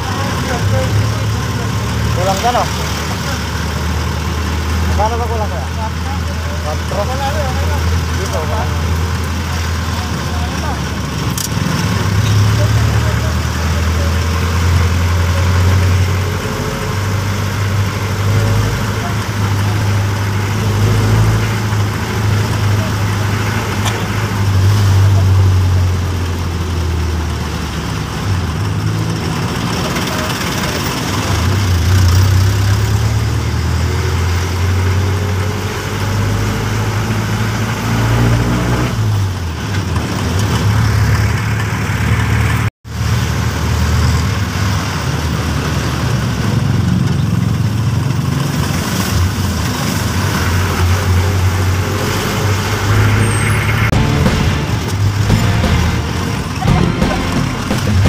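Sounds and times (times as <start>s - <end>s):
diesel engine humming: 0.0s - 38.0s, 44.4s - 58.0s.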